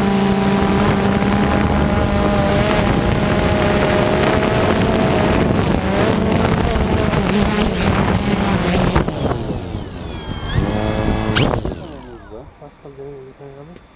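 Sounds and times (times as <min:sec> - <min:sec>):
wind buffeting microphone: 0:00.0 - 0:12.7
drone propellers whining: 0:00.0 - 0:13.9.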